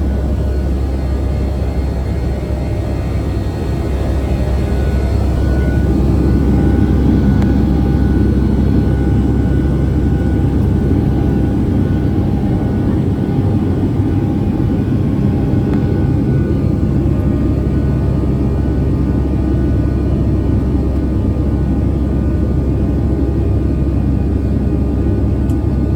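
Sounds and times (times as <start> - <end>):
faint whining tones: 0.0 - 23.0
jet engine drone in cabin: 0.0 - 25.9.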